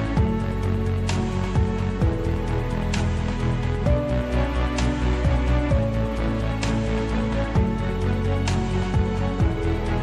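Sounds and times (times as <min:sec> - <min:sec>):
held chords over bass line: 0:00.0 - 0:10.0.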